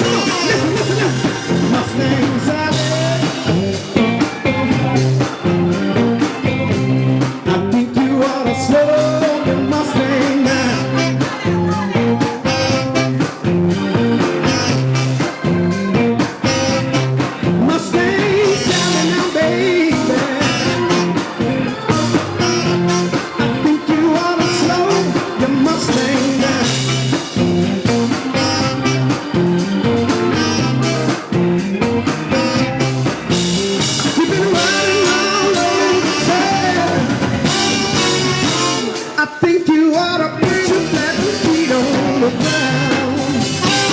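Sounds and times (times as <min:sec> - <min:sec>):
live blues band playing: 0:00.0 - 0:43.9.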